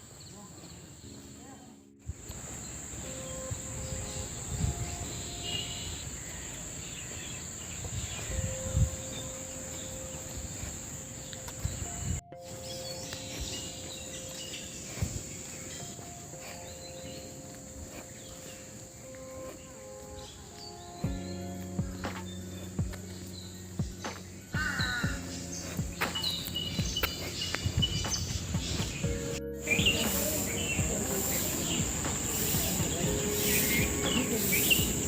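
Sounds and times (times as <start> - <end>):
soft background music: 0.2 - 35.0
crickets chirring: 2.1 - 35.0.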